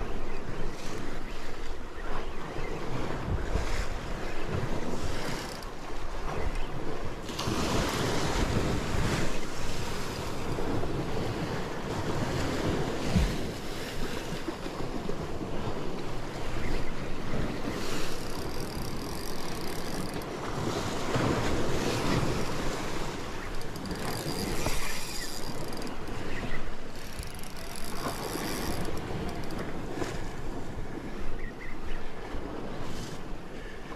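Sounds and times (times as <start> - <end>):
wind buffeting microphone: 2.2 - 33.4
sea waves washing against rocks: 3.0 - 31.1.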